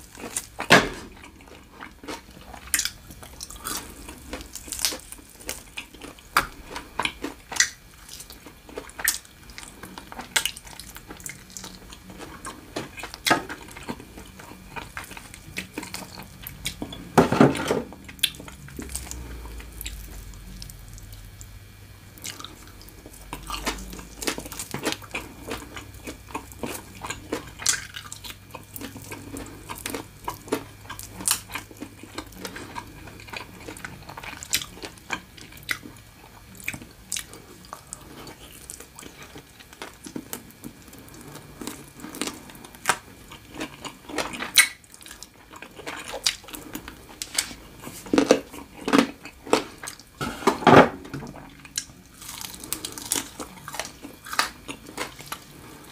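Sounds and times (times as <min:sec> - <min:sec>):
wet chewing and smacking: 0:00.0 - 0:17.1, 0:18.0 - 0:50.1, 0:51.4 - 0:55.9.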